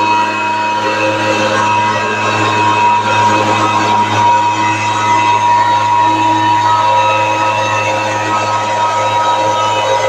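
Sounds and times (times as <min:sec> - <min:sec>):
leaf blower running: 0:00.0 - 0:10.0.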